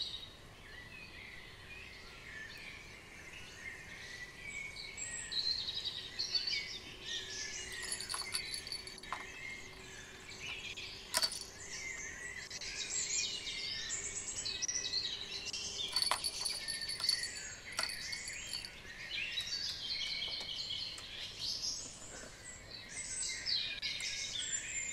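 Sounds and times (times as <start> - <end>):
songbirds singing and chirping: 0.0 - 24.9.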